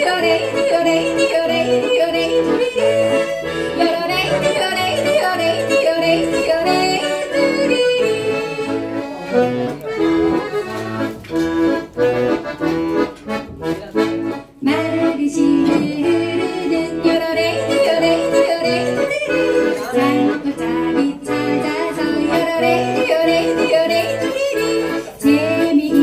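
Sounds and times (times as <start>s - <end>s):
accordion playing: 0.0s - 26.0s.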